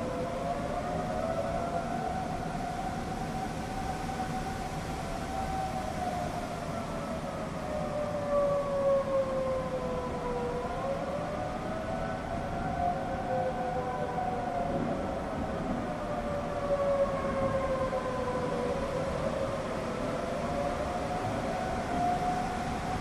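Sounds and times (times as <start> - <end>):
tornado warning sirens wailing: 0.0 - 23.0.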